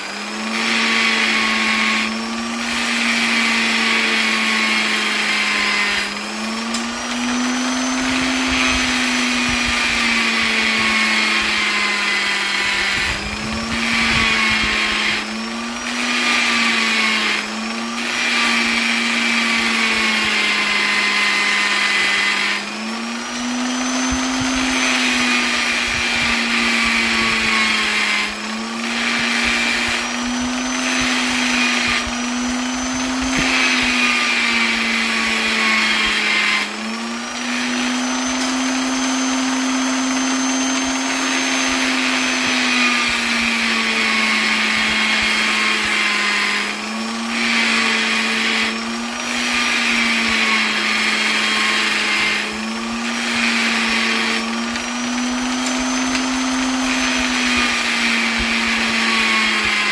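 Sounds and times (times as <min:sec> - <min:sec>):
electric polisher running: 0:00.0 - 0:59.9.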